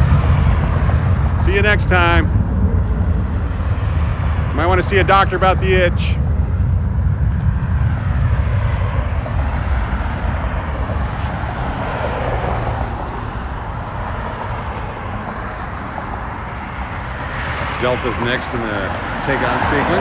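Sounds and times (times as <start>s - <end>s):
jet airliner engine rumble: 0.0s - 20.0s.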